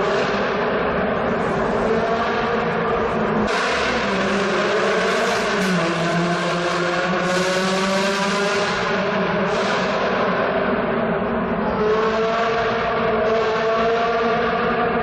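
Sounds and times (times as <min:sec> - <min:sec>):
car engine accelerating in tunnel: 0:00.0 - 0:15.0.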